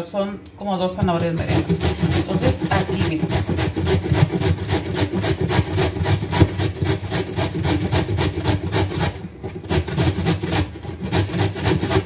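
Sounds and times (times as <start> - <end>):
carrot grating on metal grater: 1.0 - 12.0.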